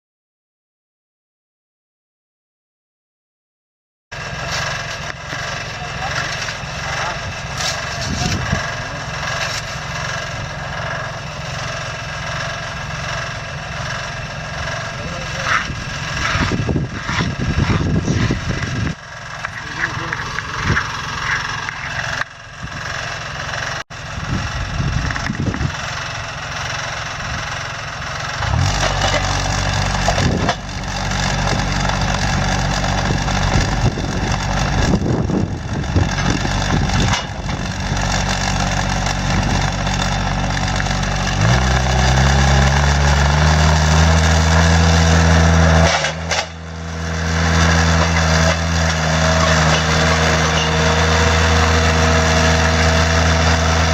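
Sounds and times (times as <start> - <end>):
engine running: 4.1 - 53.9.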